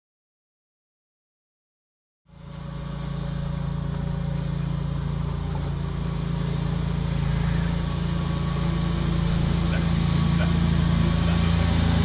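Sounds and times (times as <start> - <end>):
engine running steadily: 2.3 - 12.0.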